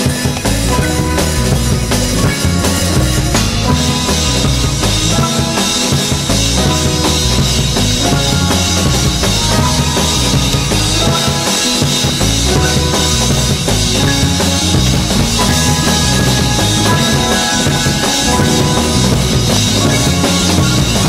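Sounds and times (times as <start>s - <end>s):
song with drum beat: 0.0s - 21.0s.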